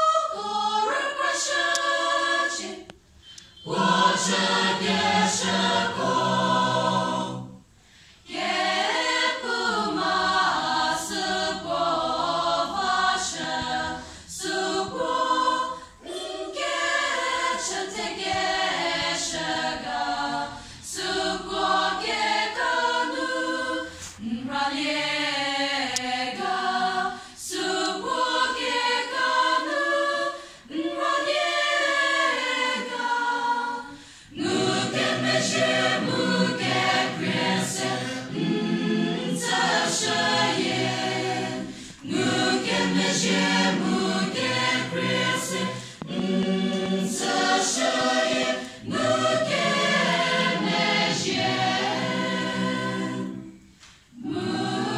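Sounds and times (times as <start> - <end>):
choir singing in parts: 0.0 - 54.9.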